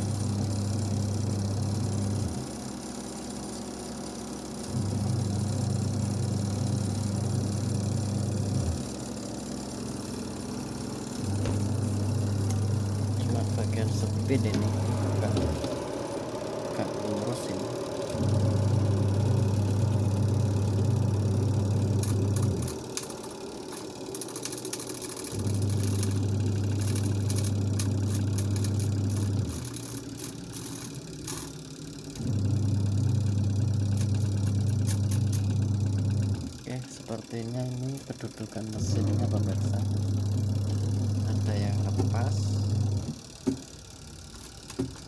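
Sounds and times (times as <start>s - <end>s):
washing machine motor humming: 0.0s - 45.0s.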